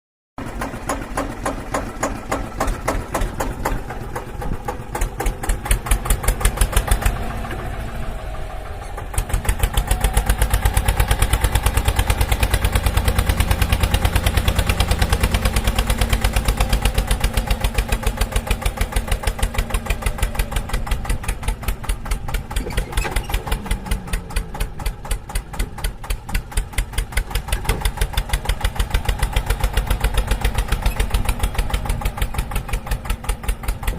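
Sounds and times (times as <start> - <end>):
small engine puttering: 0.4 - 33.9.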